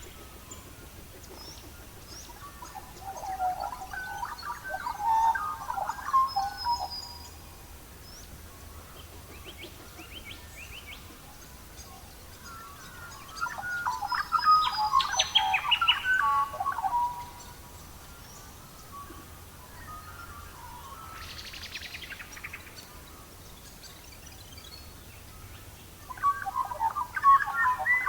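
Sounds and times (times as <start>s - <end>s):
songbird warbling and chirping: 0.0s - 7.4s, 8.0s - 28.0s
faint steady hiss: 0.0s - 28.0s.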